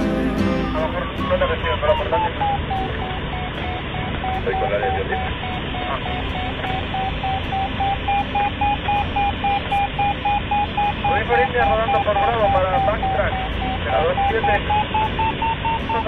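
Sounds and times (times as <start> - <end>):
variometer short beeps: 0.0 - 16.0.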